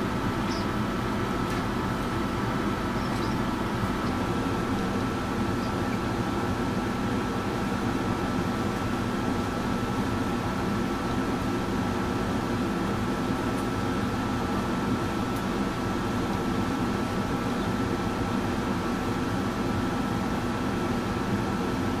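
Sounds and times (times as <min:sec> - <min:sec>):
aquarium pump hum and hiss: 0:00.0 - 0:22.0.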